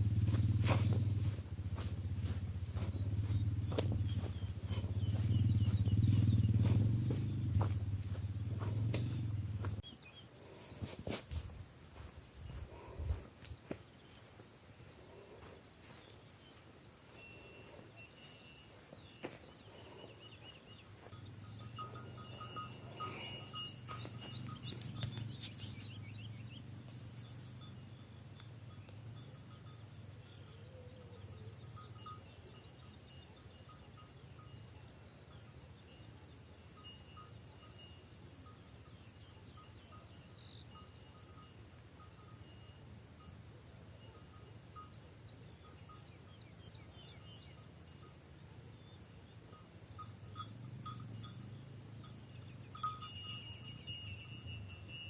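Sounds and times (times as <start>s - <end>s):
sheep bells clinking: 0.0s - 10.6s, 14.0s - 55.0s.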